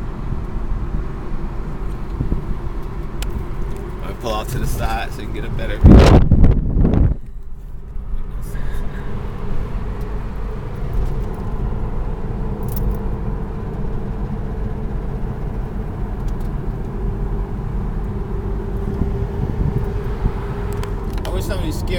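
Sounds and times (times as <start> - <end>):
car cabin road and engine noise: 0.0 - 21.9.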